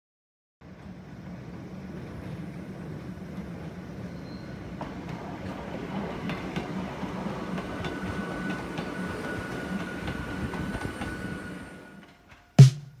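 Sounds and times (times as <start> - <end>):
train wheels rumbling: 0.6 - 13.0.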